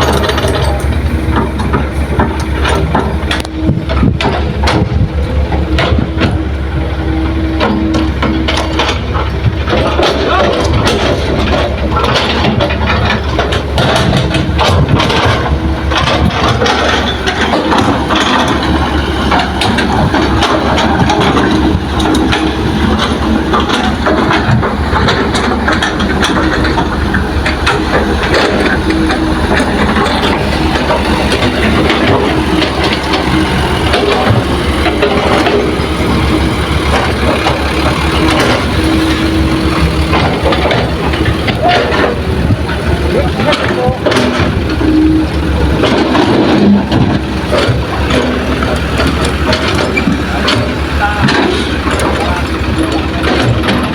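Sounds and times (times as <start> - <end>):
small knocks and clatter: 0.0 - 6.5, 7.5 - 53.9
heavy diesel machinery running: 0.0 - 53.9.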